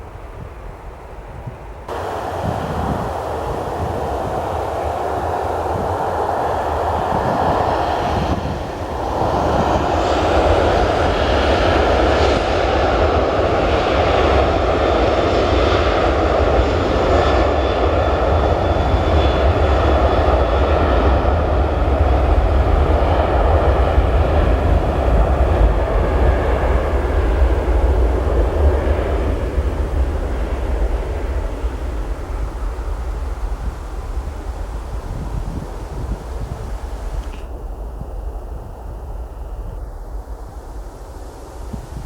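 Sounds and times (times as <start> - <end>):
jet engines running loudly: 1.8 - 42.0.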